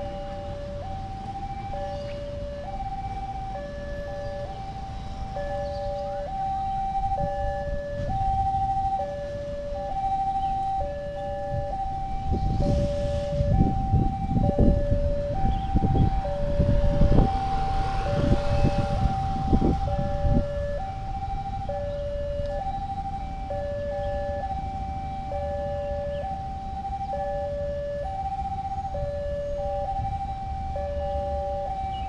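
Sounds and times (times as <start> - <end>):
two-tone crossing alarm: 0.0 - 32.0.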